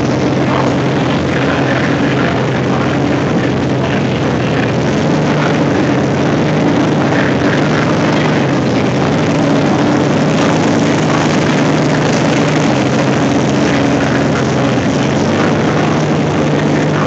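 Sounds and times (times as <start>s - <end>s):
aero engine running steadily: 0.0s - 17.0s.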